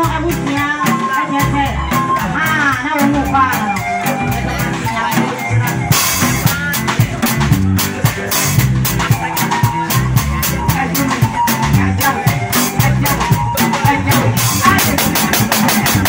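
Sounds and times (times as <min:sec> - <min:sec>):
bass line: 0:00.0 - 0:16.0
drums steady beat: 0:00.0 - 0:16.0
electronic keyboards: 0:00.0 - 0:16.0.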